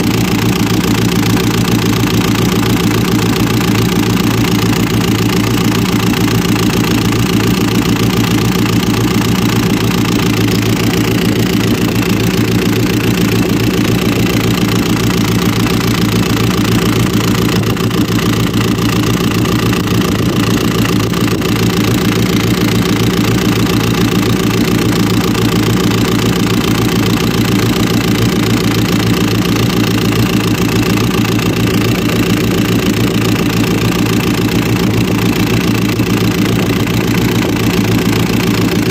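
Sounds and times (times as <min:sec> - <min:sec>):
diesel truck engine idling: 0:00.0 - 0:38.9
rapid engine knock: 0:00.0 - 0:38.9.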